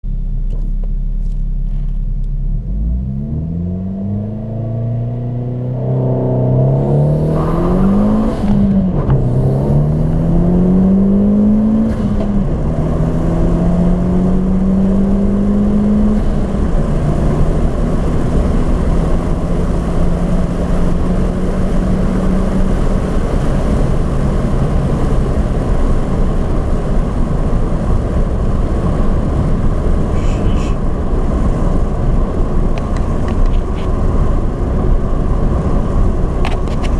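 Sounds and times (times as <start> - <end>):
road and wind noise: 0.0 - 36.9
car engine accelerating hard: 0.5 - 36.9.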